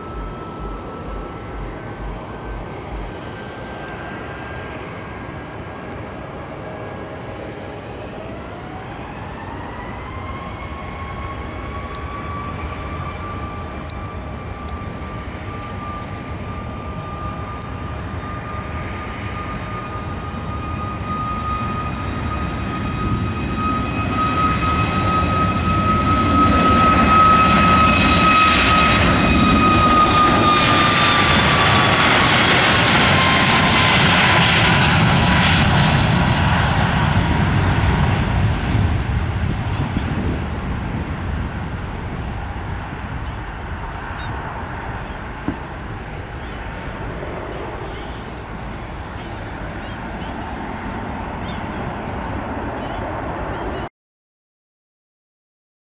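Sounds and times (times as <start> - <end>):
jet engine fan whine: 0.0 - 53.9
jet engine roar: 0.0 - 53.9.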